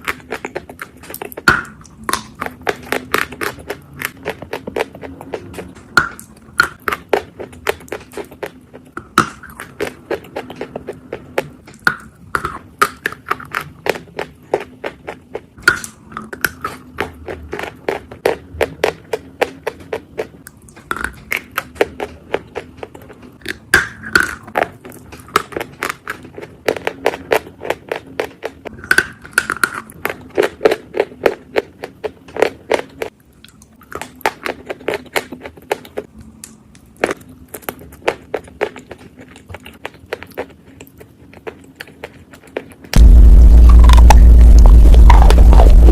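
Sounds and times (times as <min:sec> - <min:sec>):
crisp chewing crunches: 0:00.0 - 0:45.9.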